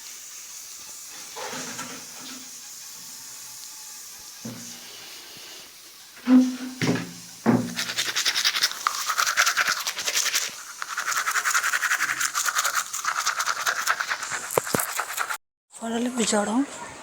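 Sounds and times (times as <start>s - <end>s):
broom sweeping floor: 0.0s - 3.4s, 4.1s - 15.4s.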